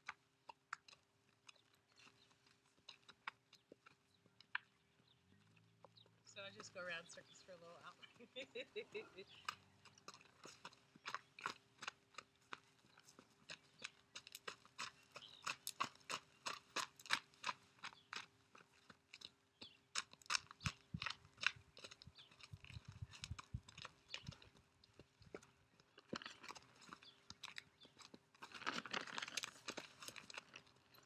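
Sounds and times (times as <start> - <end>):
horse hooves cantering on grass: 0.0 - 31.0.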